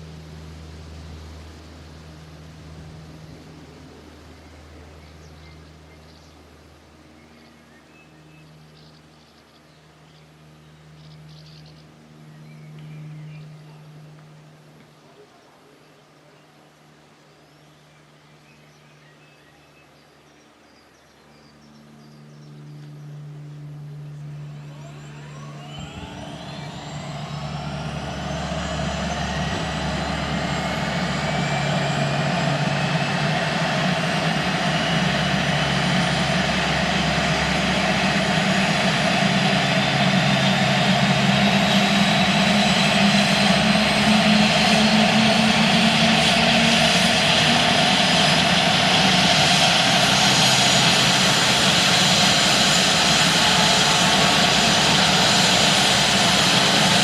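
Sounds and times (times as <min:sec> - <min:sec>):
helicopter turbine whine: 0:00.0 - 0:57.0.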